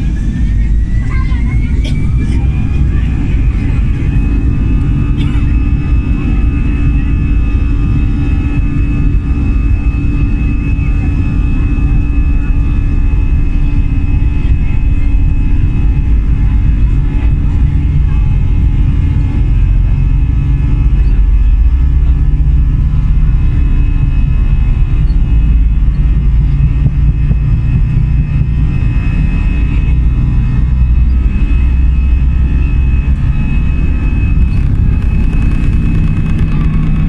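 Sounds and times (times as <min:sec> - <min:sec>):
jet engine cabin rumble: 0:00.0 - 0:37.0
thin steady whine: 0:00.0 - 0:37.0.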